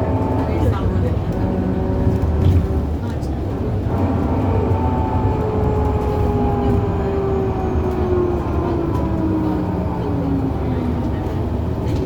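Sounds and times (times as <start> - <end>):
bus drivetrain rumbling with whine: 0.0 - 12.0.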